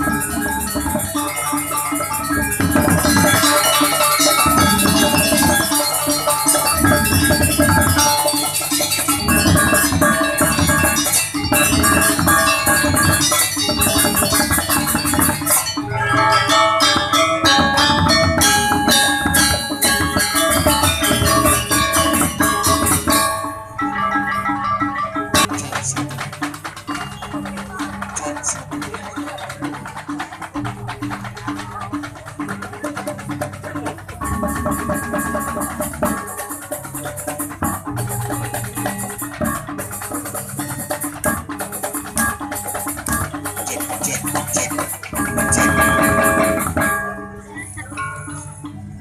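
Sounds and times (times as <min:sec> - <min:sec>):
drumming: 0:00.0 - 0:48.5
gamelan ensemble playing: 0:00.0 - 0:49.0
metallophones and gongs struck: 0:00.0 - 0:49.0.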